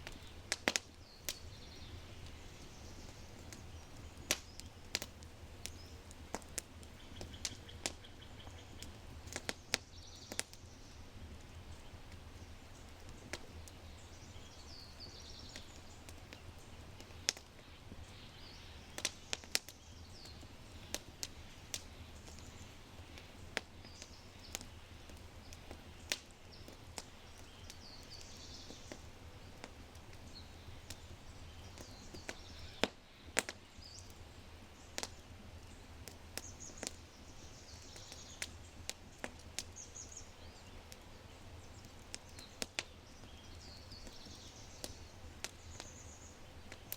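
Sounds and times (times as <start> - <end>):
fire crackling and popping: 0.0 - 46.9
small birds chirping: 0.0 - 46.9.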